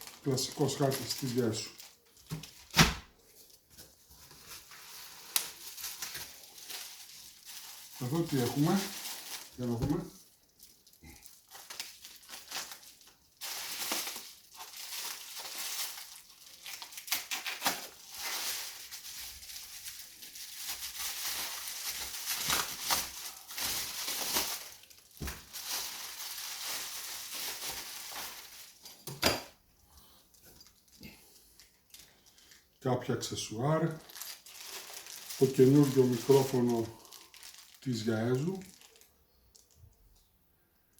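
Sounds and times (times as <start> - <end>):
plastic bags crinkling: 0.0 - 29.1, 30.2 - 32.8, 33.5 - 40.2.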